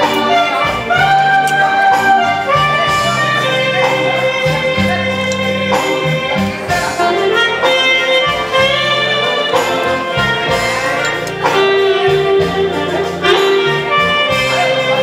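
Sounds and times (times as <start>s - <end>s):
instrumental music with bass line: 0.0s - 15.0s.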